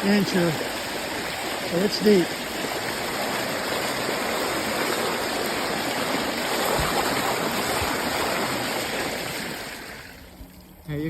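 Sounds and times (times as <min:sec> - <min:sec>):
bicycle wheels through floodwater: 0:00.0 - 0:11.0.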